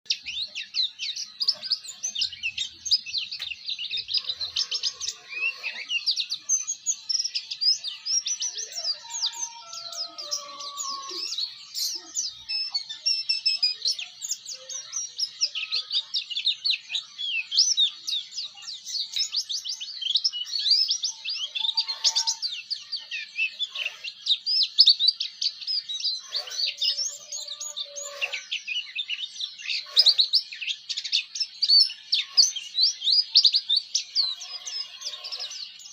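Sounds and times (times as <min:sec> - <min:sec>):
bird twittering song: 0:00.0 - 0:35.9.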